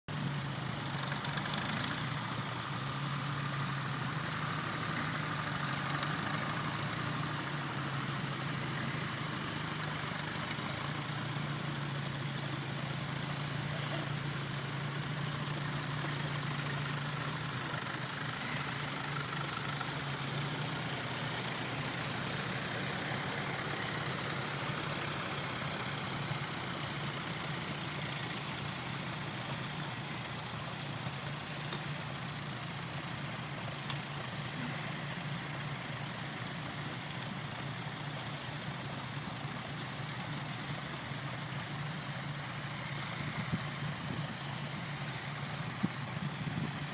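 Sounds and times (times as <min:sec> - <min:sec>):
tractor engine droning: 0:00.1 - 0:46.9.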